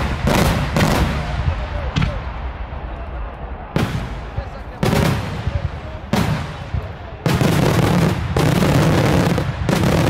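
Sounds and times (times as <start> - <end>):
fireworks bursting: 0.0 - 2.9, 3.7 - 10.0.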